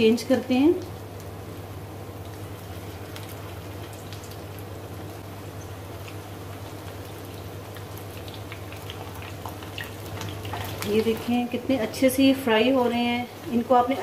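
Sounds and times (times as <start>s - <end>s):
oil sizzling in a pan: 0.0s - 14.0s
steady low hum: 0.0s - 14.0s.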